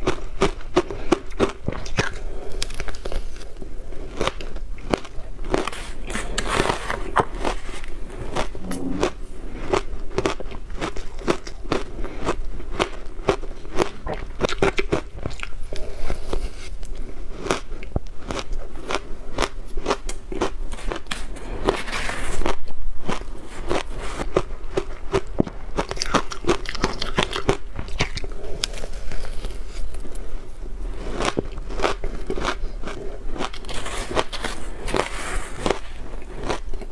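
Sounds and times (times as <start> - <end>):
chewing crunchy ice: 0.0 - 30.2, 30.9 - 36.9.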